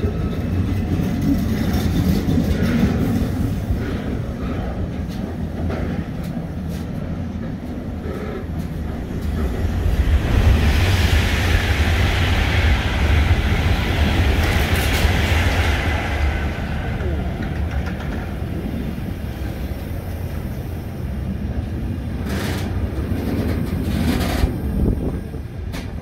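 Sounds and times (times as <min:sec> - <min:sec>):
train wagons rumbling on rails: 0:00.0 - 0:26.0.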